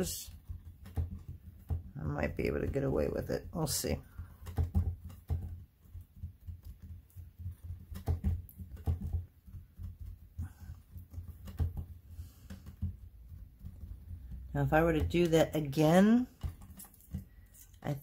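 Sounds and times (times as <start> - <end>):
fingers tapping clay on a mat: 0.0 - 18.0.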